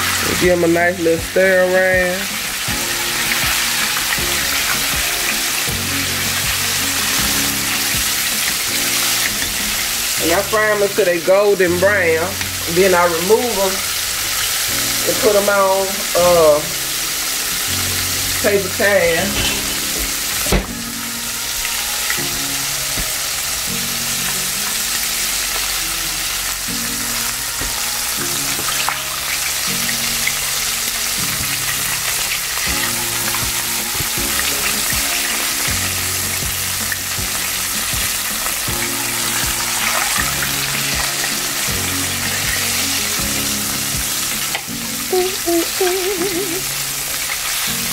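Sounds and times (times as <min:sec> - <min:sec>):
background music: 0:00.0 - 0:47.9
food sizzling in hot oil: 0:00.0 - 0:47.9.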